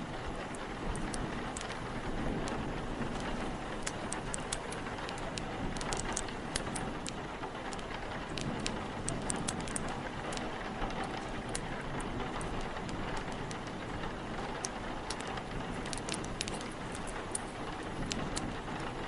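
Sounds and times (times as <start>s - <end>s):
steady rain: 0.0s - 19.0s
wind: 0.0s - 19.0s
wood fire crackling: 0.0s - 19.0s.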